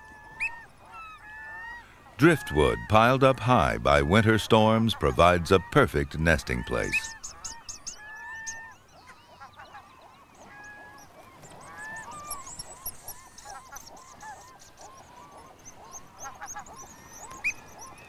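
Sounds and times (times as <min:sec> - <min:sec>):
seabirds calling: 0:00.0 - 0:18.0.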